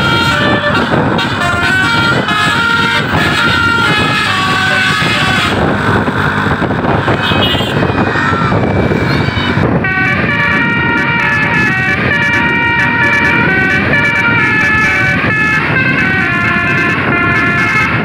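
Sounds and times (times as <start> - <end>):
musical air horn melody: 0.0 - 5.7, 7.2 - 7.9, 8.9 - 18.0
loud rushing noise: 0.0 - 18.0.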